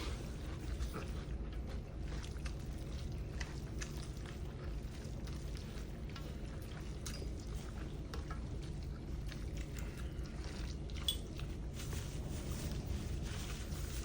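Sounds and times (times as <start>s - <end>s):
steady low hum: 0.0s - 14.0s
wet slurping: 0.0s - 14.0s.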